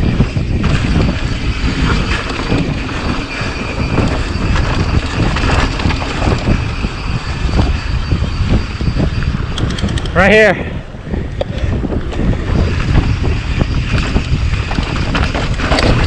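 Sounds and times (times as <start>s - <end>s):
mountain bike rattling over rocks: 0.0s - 10.1s, 12.1s - 16.0s
wind buffeting microphone: 0.0s - 16.0s.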